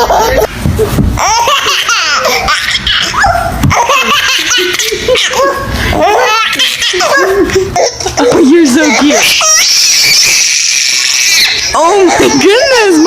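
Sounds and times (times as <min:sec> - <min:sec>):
baby laughing: 0:00.0 - 0:13.0.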